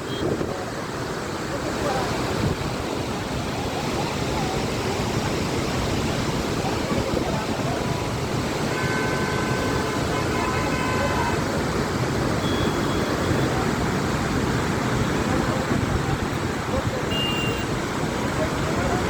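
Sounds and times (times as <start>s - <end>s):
water rushing from spillway: 0.0s - 19.0s.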